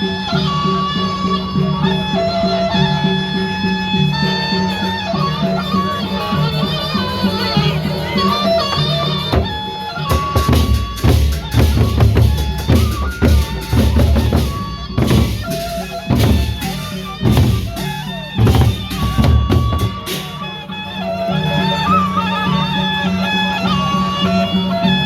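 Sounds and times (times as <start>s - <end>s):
reedy melody: 0.0s - 25.0s
heavy drumming: 3.5s - 25.0s.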